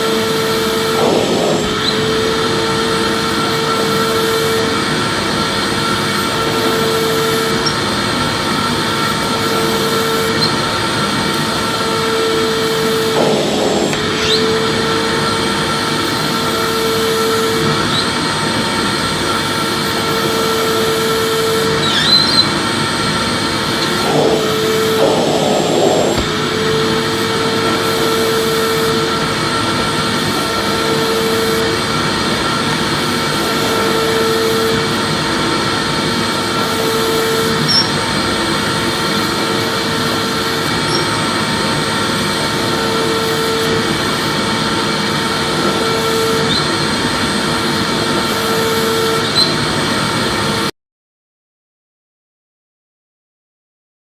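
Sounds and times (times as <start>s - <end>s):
vacuum cleaner running: 0.0s - 50.7s.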